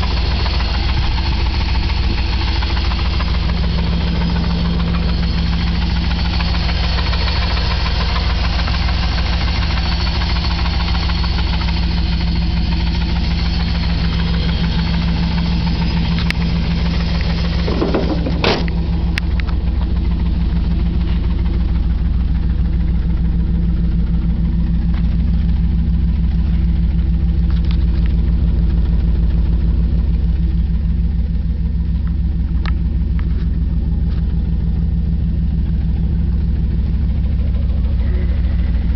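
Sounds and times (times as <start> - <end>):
engine running with knock: 0.0 - 38.9.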